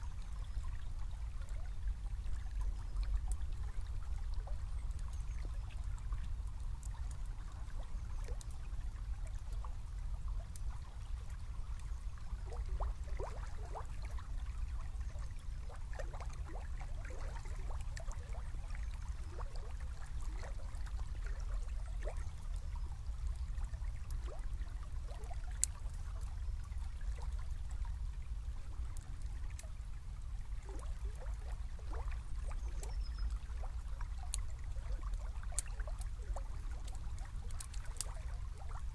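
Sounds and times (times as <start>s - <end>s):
low water rumble: 0.0s - 38.9s
river water trickling and gurgling: 0.0s - 38.9s.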